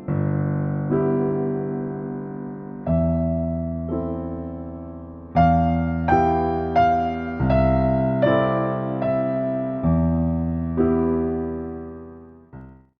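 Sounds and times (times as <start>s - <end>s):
slow piano music: 0.0s - 12.9s.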